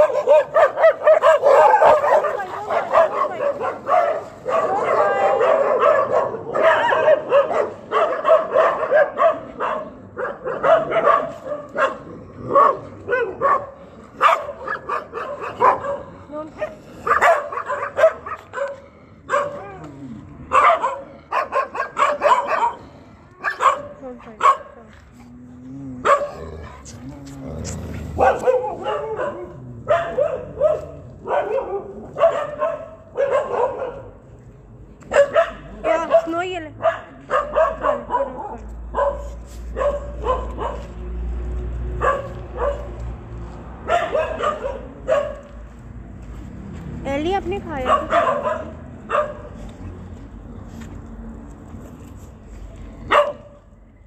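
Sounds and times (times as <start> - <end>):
dogs barking and yelping: 0.0 - 24.9, 25.8 - 26.9, 27.5 - 34.2, 35.0 - 41.1, 41.9 - 45.6, 47.7 - 49.7, 53.0 - 53.8.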